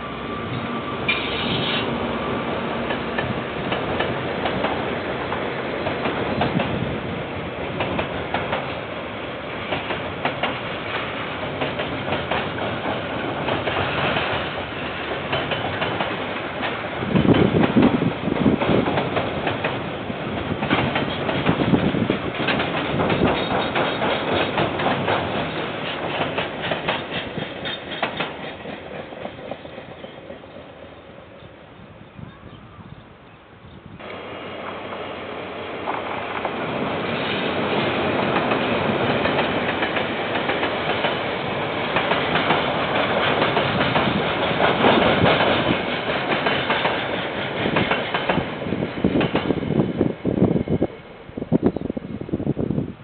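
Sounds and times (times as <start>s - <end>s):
train rumble: 0.0s - 53.0s
train wheels clicking over rail joints: 0.5s - 2.0s, 2.7s - 7.0s, 7.6s - 30.8s, 34.0s - 49.9s.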